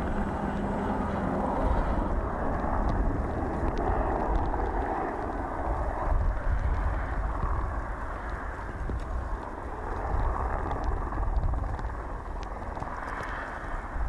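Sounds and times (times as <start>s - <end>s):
gusty wind on microphone: 0.0s - 14.0s
lava flow clicks and crackles: 0.0s - 14.0s.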